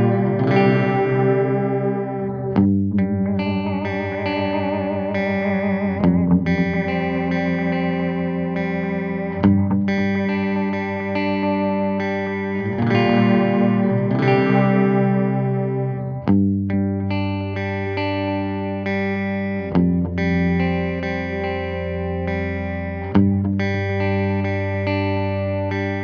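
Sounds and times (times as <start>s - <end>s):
electric guitar chords with delay: 0.0s - 26.0s.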